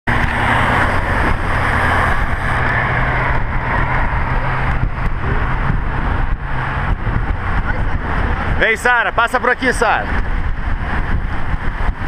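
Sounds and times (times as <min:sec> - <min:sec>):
wind and road noise on microphone: 0:00.0 - 0:12.0
low rumble: 0:00.1 - 0:12.0.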